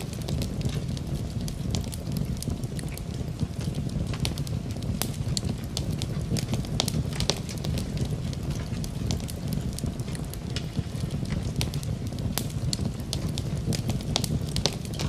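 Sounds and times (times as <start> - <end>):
low rumble: 0.0 - 15.0
rain: 0.0 - 15.0
wood fire crackling: 0.0 - 15.0.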